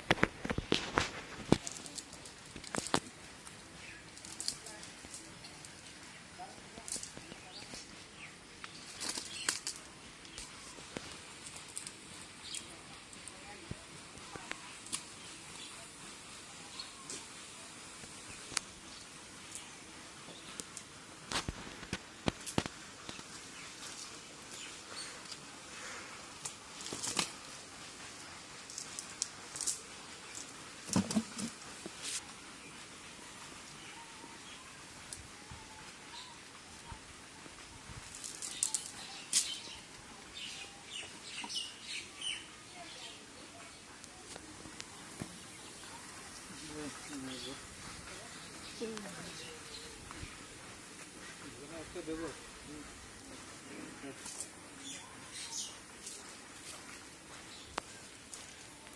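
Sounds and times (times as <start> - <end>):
outdoor hiss: 0.0 - 58.9.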